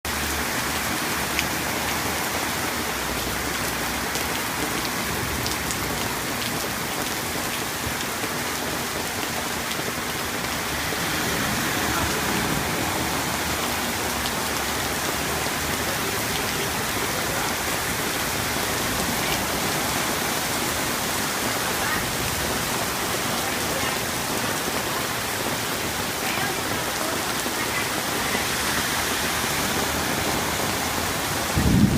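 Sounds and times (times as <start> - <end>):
rain falling: 0.0 - 31.9.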